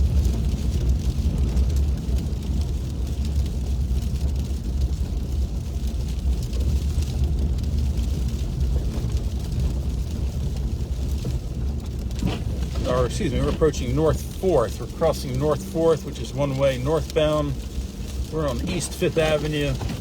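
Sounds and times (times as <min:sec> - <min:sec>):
car driving on slushy road: 0:00.0 - 0:20.0.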